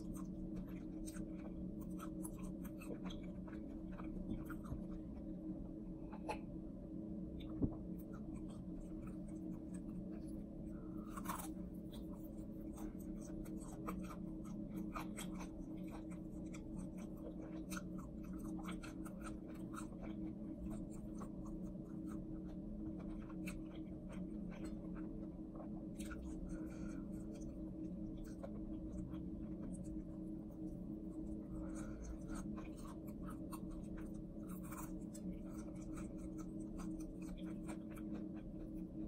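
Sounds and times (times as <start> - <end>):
chewing crispy fried chicken: 0.0 - 6.6, 7.3 - 39.0
steady low hum: 0.0 - 39.0.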